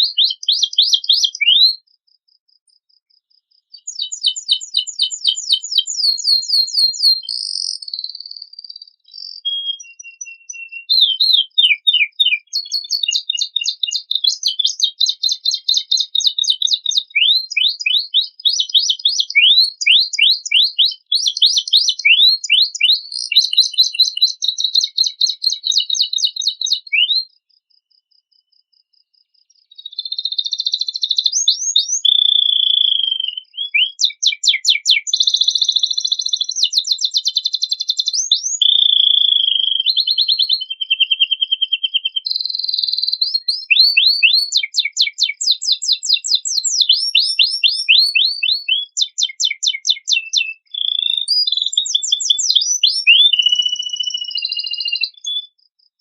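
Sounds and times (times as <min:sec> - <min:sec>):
canary singing trills: 0:00.0 - 0:01.9, 0:03.5 - 0:27.4, 0:29.4 - 0:55.6.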